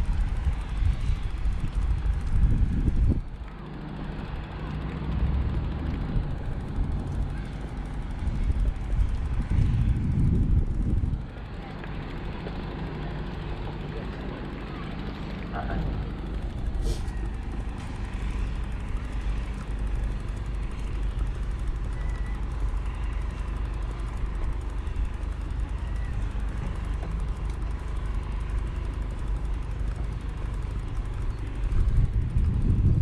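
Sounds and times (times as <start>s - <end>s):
wind and road noise rumble: 0.0s - 33.0s.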